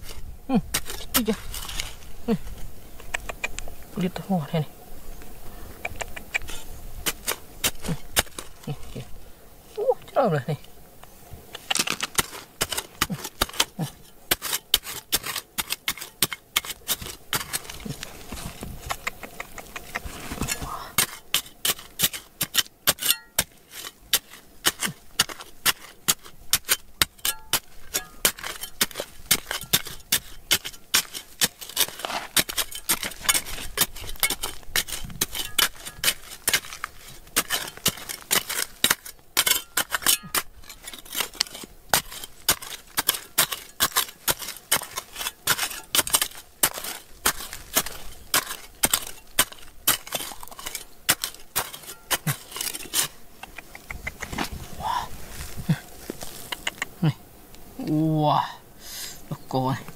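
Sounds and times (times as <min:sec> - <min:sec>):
metal tool chipping at rock: 0:00.0 - 0:02.4, 0:05.9 - 0:08.8, 0:11.6 - 0:54.5.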